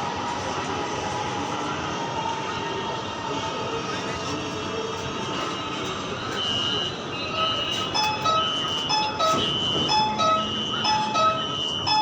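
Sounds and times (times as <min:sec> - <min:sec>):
train running noise: 0:00.0 - 0:12.0.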